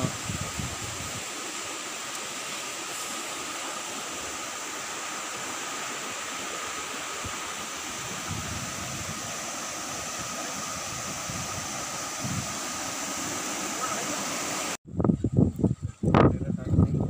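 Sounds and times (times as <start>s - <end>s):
stream running over rocks: 0.0s - 14.8s.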